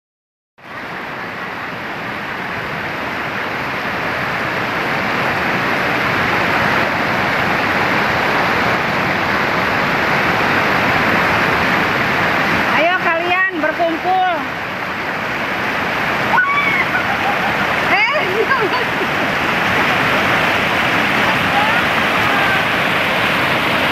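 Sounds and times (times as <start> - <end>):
river rushing over rocks: 0.6 - 23.9.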